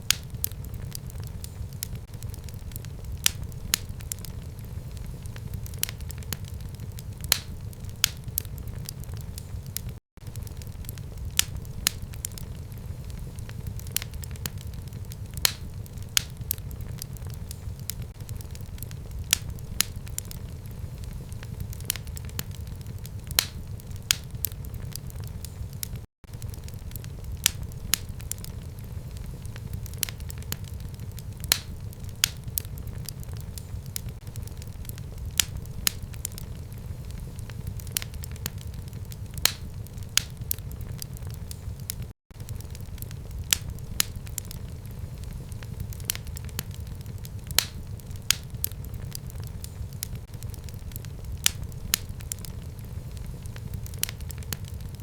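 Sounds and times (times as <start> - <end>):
fire crackles and pops: 0.0 - 55.0
fire low rumble: 0.0 - 55.0.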